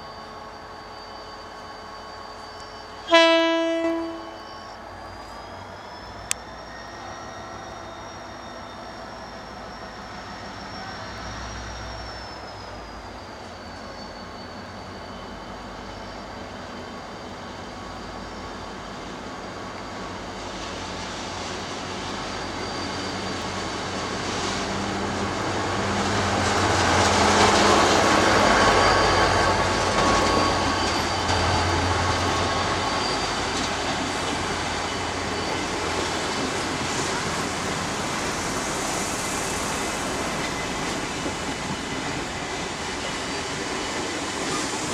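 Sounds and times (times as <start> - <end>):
high-pitched squeal: 0.0 - 44.9
train passing on rails: 0.0 - 44.9.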